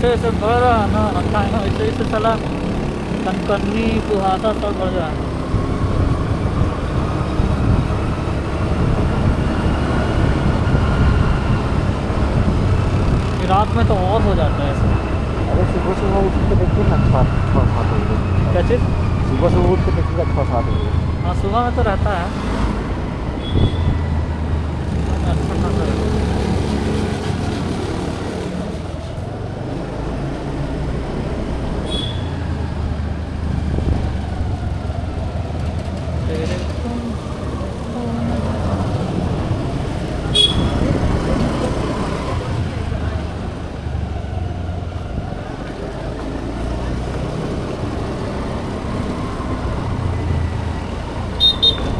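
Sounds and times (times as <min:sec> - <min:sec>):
vehicle rumble: 0:00.0 - 0:51.9.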